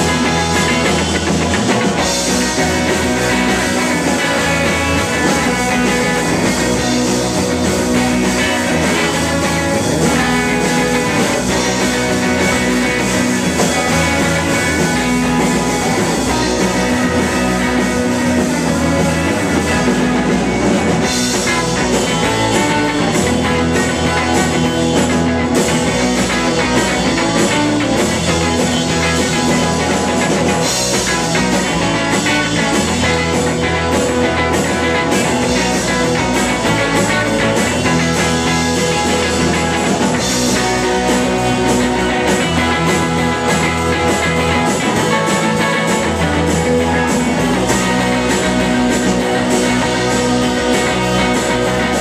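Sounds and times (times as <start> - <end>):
live rock band: 0.0 - 52.0.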